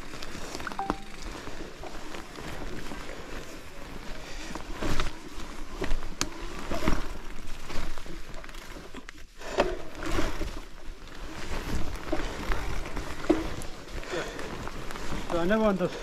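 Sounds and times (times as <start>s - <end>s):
mountain bike rattling over ground: 0.0s - 16.0s.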